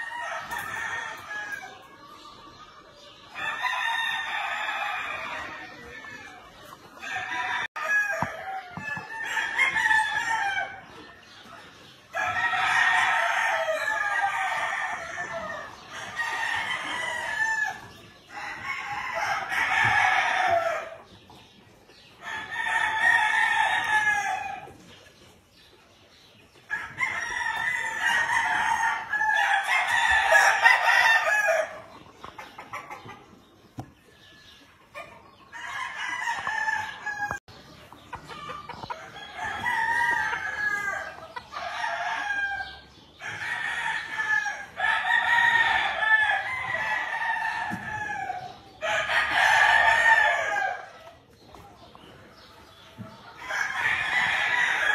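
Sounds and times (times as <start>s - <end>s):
roosters crowing: 0.0s - 2.6s, 3.3s - 21.4s, 22.1s - 24.9s, 26.6s - 33.1s, 34.4s - 54.9s.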